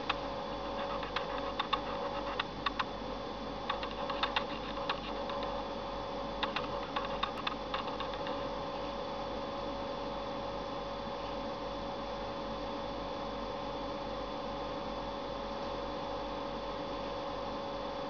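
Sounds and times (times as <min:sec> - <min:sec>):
electrical hum: 0:00.0 - 0:18.0
faint high whine: 0:00.0 - 0:18.0.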